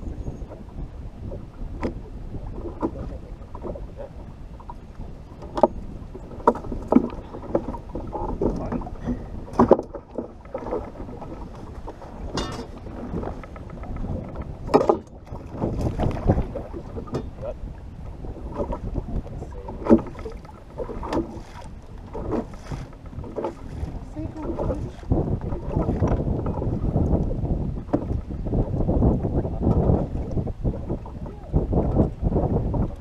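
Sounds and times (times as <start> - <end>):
water slapping boat hull: 0.0 - 33.0
wind rumbling on microphone: 0.0 - 33.0.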